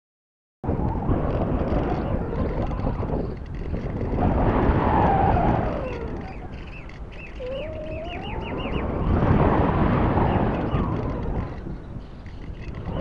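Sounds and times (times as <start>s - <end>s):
wind rushing over camera: 0.6s - 13.0s.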